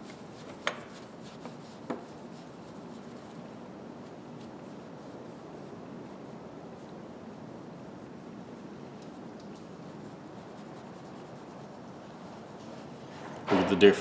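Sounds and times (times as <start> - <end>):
soft scrubbing by hand: 0.0 - 13.2.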